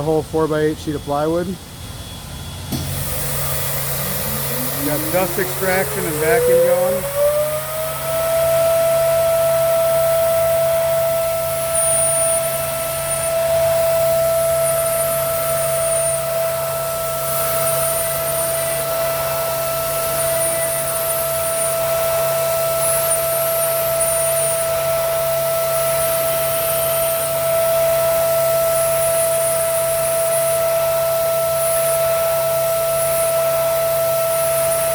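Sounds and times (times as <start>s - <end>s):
vacuum table and extraction hum: 0.0s - 34.9s
router spindle whining: 2.0s - 34.9s.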